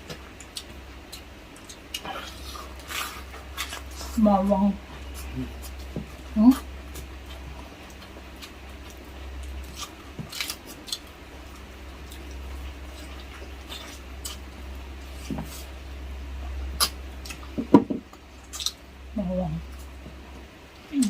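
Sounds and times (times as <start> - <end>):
chewing with wet smacks: 0.0 - 4.2, 5.0 - 15.7, 16.4 - 18.8
steady low hum: 0.0 - 21.0.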